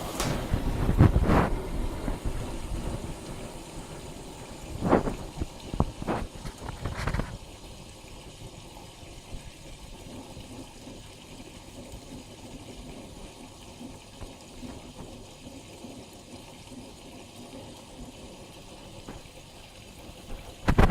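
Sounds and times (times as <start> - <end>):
water sloshing in washing machine: 0.0 - 20.9.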